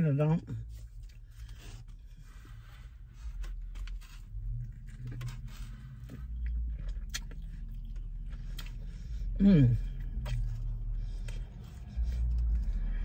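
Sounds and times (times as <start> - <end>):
low steady rumble: 0.0 - 13.0
person biting and chewing sandwich: 0.8 - 13.0.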